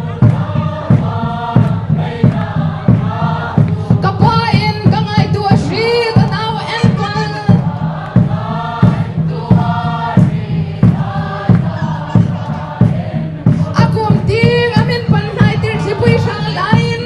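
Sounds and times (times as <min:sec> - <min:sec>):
group singing: 0:00.0 - 0:17.0
heavy drum beat: 0:00.0 - 0:17.0.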